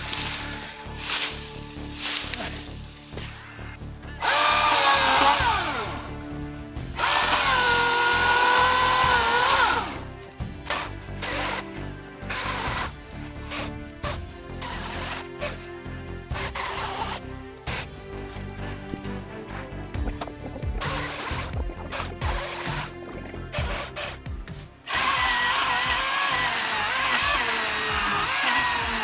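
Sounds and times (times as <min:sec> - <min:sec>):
electric chainsaw motor whining: 0:00.0 - 0:15.6, 0:16.3 - 0:17.2, 0:20.8 - 0:29.0
faint background music: 0:00.0 - 0:29.0.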